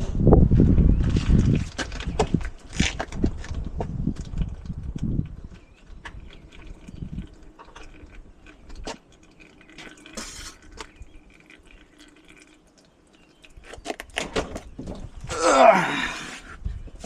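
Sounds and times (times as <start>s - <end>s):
oil trickling and dripping: 1.1s - 15.7s.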